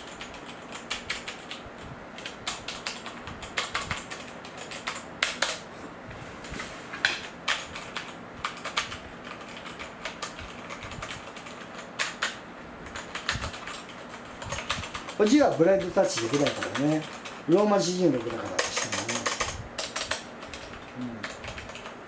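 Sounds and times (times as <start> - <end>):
mechanical keyboard typing: 0.0 - 1.6, 2.2 - 5.6, 7.5 - 22.0.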